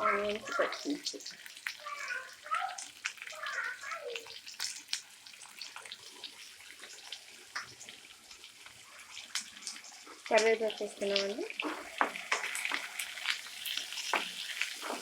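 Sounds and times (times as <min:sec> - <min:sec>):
crackles and pops: 0:00.0 - 0:15.0
food sizzling in oil: 0:00.0 - 0:15.0.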